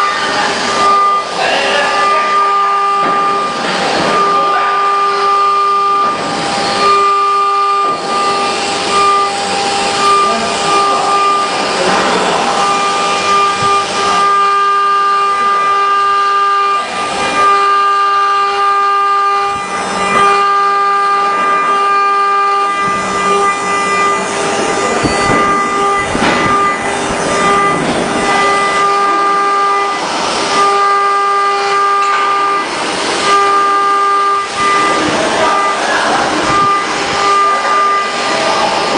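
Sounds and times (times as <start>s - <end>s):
hissing cutting noise: 0.0s - 38.9s
spindle whine: 0.0s - 38.9s.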